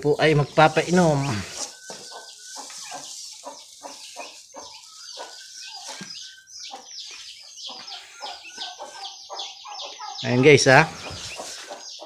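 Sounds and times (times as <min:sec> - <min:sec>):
turkey chicks peeping: 0:00.0 - 0:12.0.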